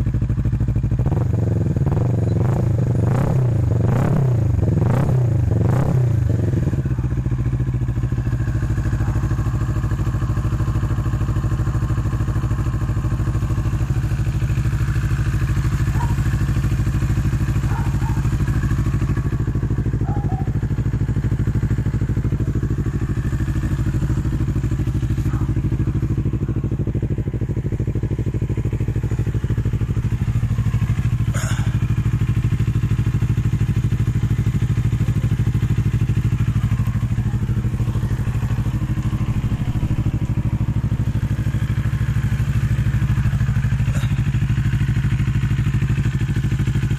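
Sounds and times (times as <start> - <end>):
motorcycle engine revving: 0.0 - 46.9
motorcycle idling: 0.0 - 46.9.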